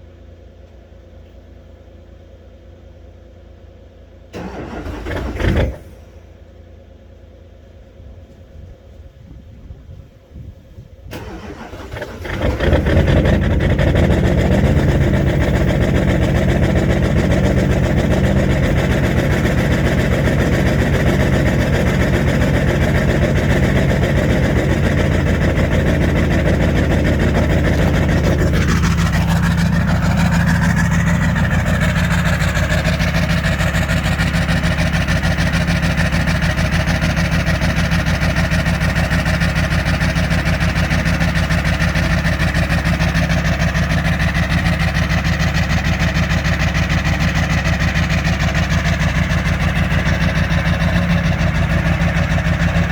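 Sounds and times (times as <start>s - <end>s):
diesel engine idling: 1.8s - 8.2s, 11.1s - 52.9s.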